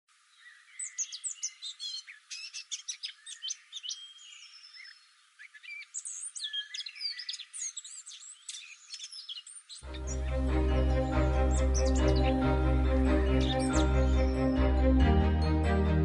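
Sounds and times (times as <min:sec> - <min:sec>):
birds chirping and singing: 0:00.4 - 0:15.6.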